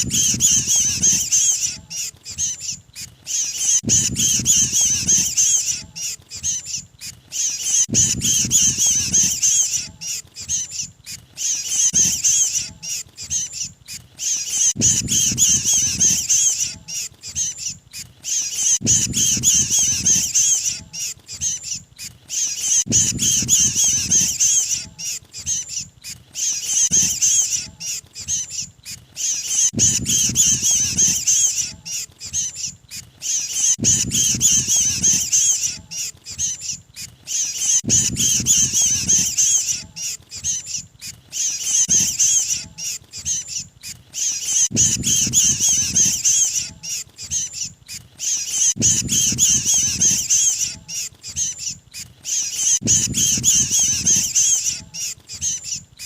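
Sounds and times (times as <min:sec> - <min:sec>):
bird alarm chatter: 0:00.0 - 0:56.0.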